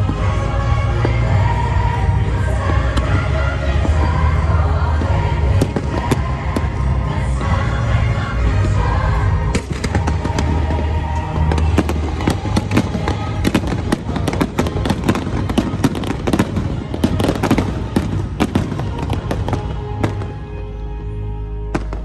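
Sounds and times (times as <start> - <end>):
fireworks bangs and crackles: 0.0 - 20.7, 21.7 - 22.0
music soundtrack: 0.0 - 22.0.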